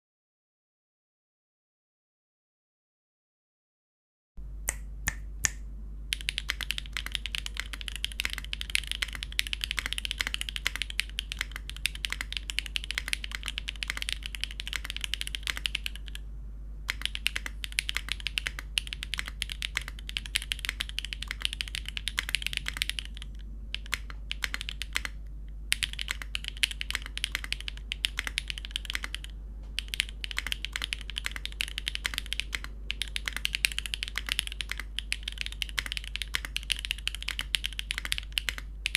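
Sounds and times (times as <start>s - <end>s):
steady low hum: 4.4s - 38.9s
mechanical keyboard typing: 6.1s - 16.2s, 16.9s - 38.9s.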